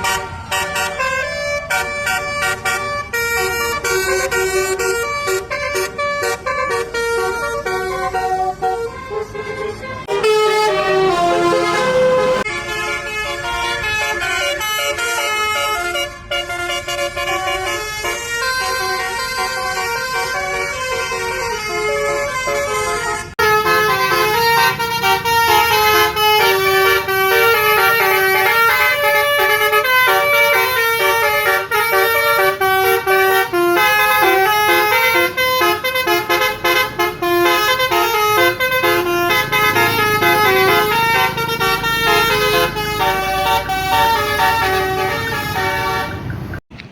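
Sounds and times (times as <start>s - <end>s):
multi-tone bus horn playing a tune: 0.0s - 46.6s.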